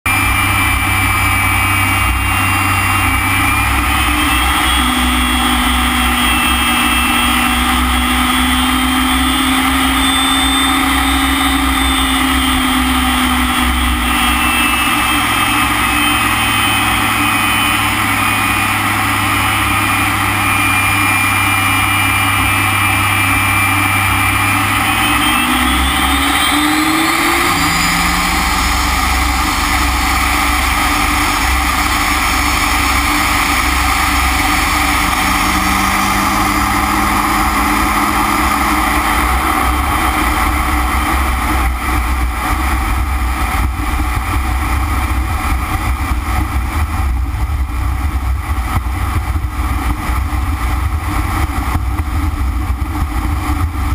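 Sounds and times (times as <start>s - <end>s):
jet engine rush with whine: 0.0s - 53.9s.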